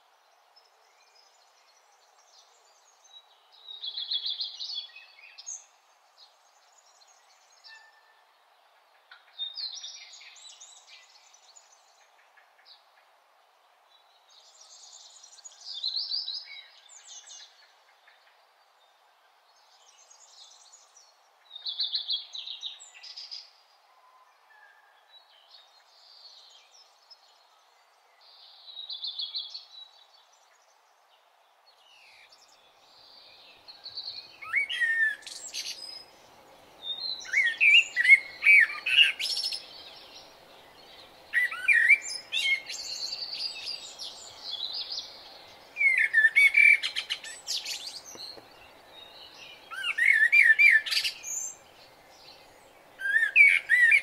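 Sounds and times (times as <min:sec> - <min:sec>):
faint background noise: 0:00.0 - 0:54.0
songbird singing: 0:00.0 - 0:54.0.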